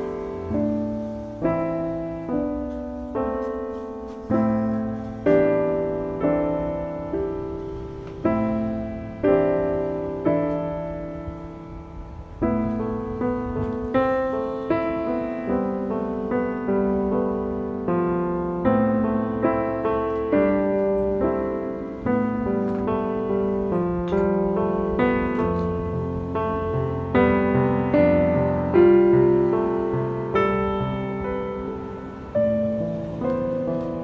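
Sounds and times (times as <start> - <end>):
gentle piano chords: 0.0 - 34.0.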